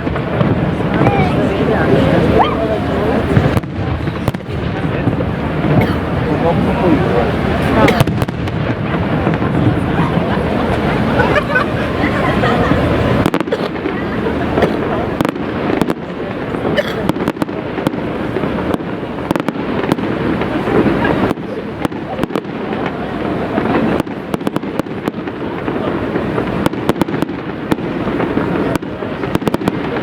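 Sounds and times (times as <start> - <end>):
firework shell bursts and crackling: 0.0 - 10.9, 12.3 - 30.0
sharp firework bangs: 0.0 - 30.0.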